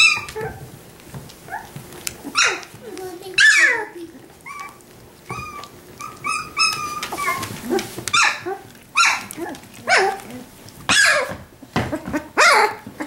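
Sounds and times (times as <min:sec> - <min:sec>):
puppies yipping and barking: 0:00.0 - 0:13.0.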